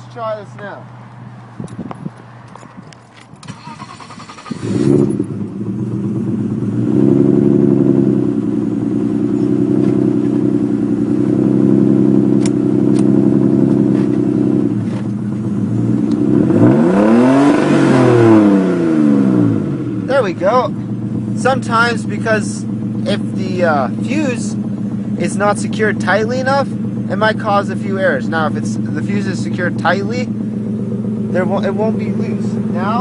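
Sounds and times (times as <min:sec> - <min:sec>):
car engine starting and running: 0:00.6 - 0:33.0
engine revving: 0:03.4 - 0:33.0.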